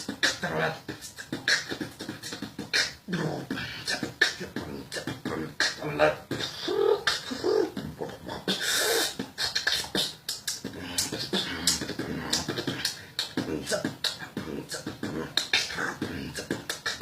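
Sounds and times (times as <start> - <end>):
beatboxing: 0.0 - 17.0
hissing cymbal-like mouth sound: 0.0 - 17.0.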